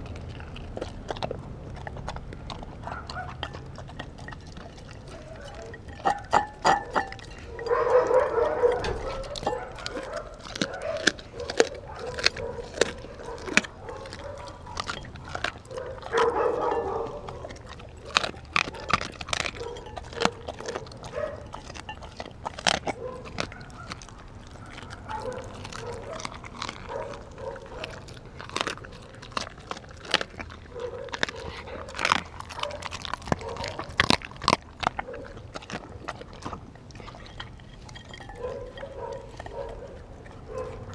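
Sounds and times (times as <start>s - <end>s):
dog chewing and crunching meat: 0.0s - 40.9s.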